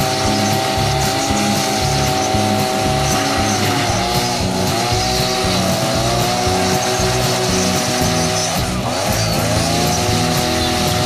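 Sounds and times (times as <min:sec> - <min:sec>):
crane motor whining: 0:00.0 - 0:11.0.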